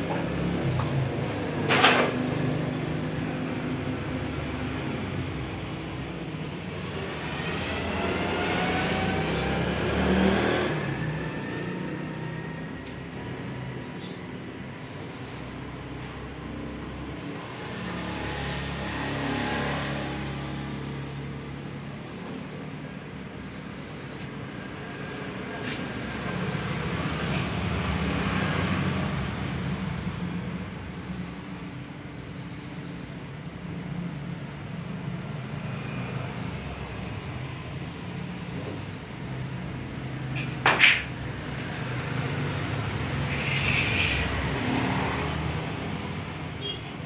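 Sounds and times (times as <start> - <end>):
low rumble of passing vehicles: 0.0 - 47.0.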